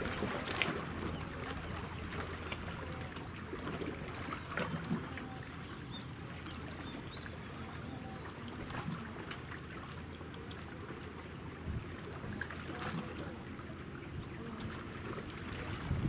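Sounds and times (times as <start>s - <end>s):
choppy water: 0.0s - 16.0s
ship engines humming: 0.0s - 16.0s.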